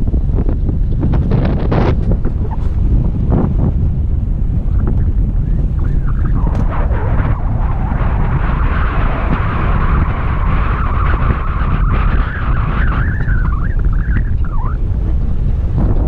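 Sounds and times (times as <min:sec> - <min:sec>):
vehicle rumble: 0:00.0 - 0:16.0
wind buffeting microphone: 0:00.0 - 0:16.0
wavering whine: 0:01.4 - 0:16.0.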